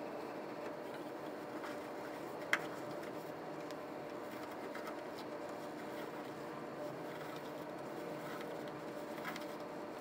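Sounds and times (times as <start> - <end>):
mechanical hum with held tones: 0.0 - 10.0.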